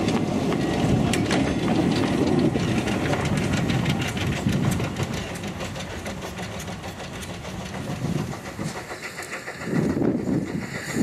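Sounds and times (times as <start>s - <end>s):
steam puffing: 0.0s - 11.0s
train wheels clicking on rail joints: 0.0s - 11.0s.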